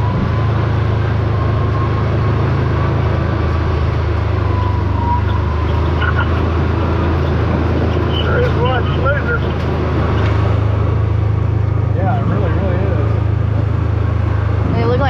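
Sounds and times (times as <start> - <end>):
tyres rumbling over trail: 0.0 - 15.0
utility vehicle engine running: 0.0 - 15.0.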